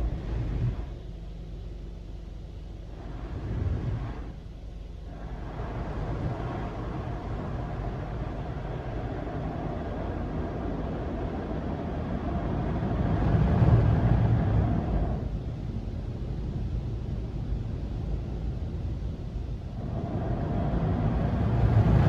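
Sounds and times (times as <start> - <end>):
car wash machinery and spray: 0.0 - 22.0.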